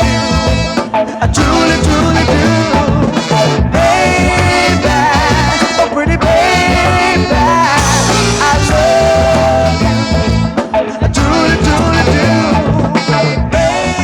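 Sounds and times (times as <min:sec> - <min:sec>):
soul music with full band: 0:00.0 - 0:14.0.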